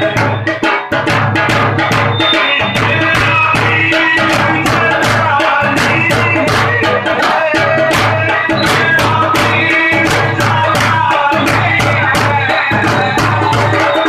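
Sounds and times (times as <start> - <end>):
frame drums beaten: 0.0 - 14.0
chanted vocal: 2.4 - 14.0.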